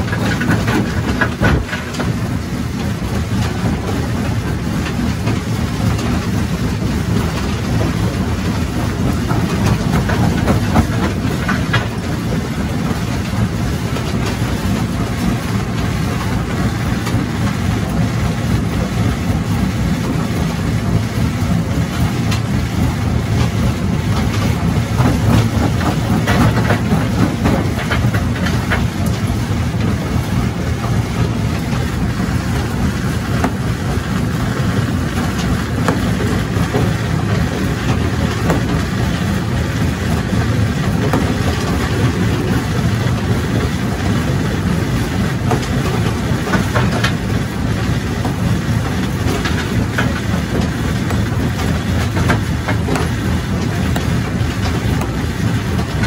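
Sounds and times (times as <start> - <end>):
jaw crusher low rumble: 0.0 - 56.0.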